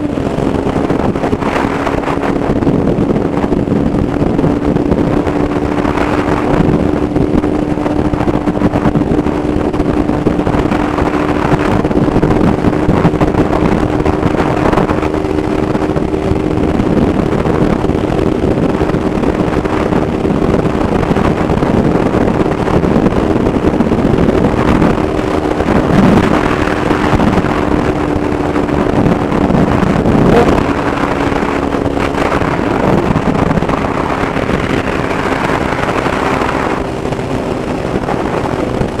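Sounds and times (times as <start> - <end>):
motorcycle engine running: 0.0 - 39.0
wind rush on microphone: 0.0 - 39.0.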